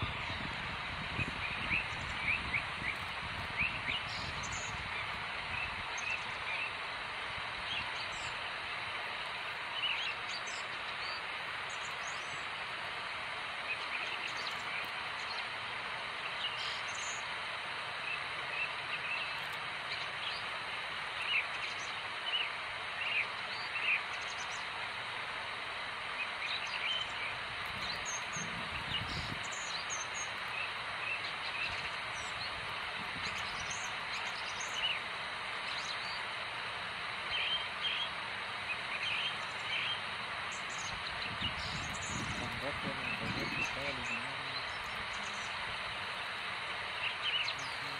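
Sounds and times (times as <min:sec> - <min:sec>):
small birds chirping: 0:00.0 - 0:47.9
steady background hiss: 0:00.0 - 0:47.9.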